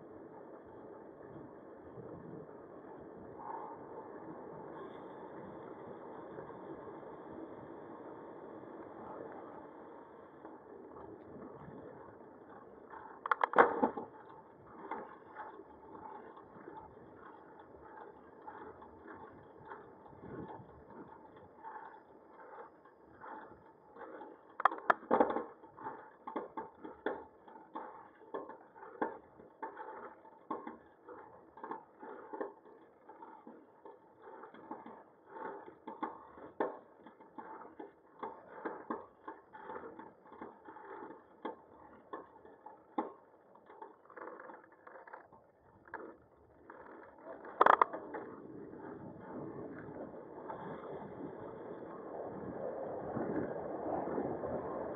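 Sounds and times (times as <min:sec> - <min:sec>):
bicycle rattling on rough road: 0:00.0 - 0:54.9.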